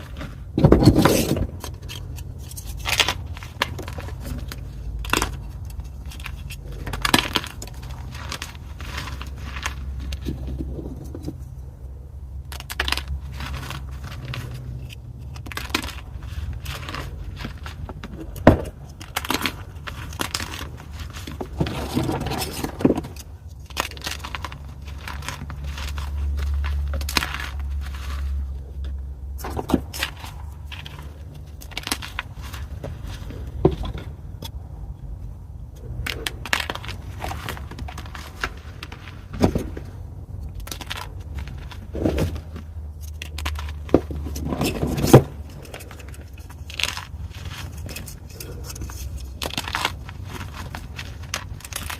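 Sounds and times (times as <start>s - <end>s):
chalk crunching and crackling: 0.0s - 11.7s, 12.4s - 34.6s, 35.7s - 51.9s.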